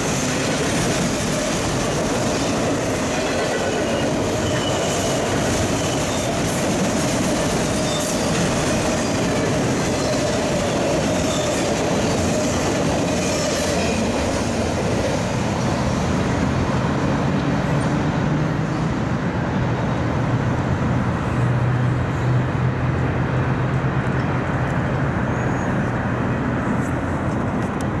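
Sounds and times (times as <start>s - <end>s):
freight train rolling past: 0.0s - 28.0s
road traffic: 0.0s - 28.0s.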